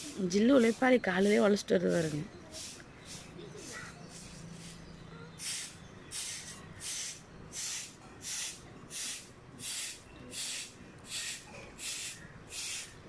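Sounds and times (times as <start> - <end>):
broom sweeping pavement: 0.0 - 13.0.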